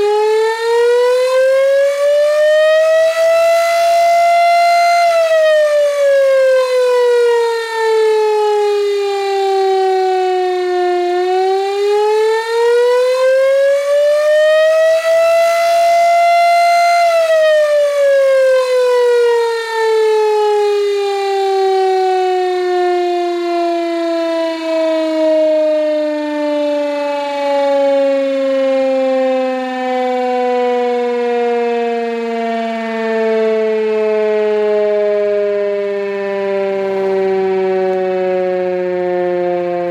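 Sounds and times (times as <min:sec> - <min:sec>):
electric motor siren wailing: 0:00.0 - 0:39.9.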